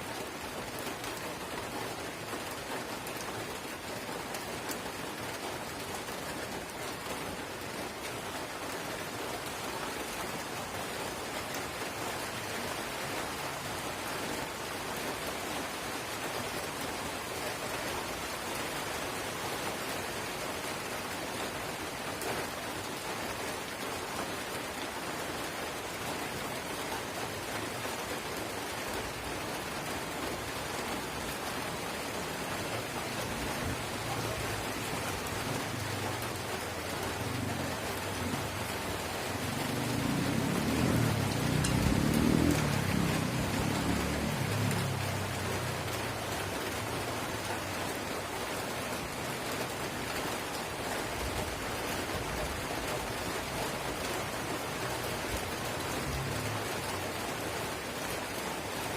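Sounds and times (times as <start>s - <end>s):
light rain hissing: 0.0s - 58.9s.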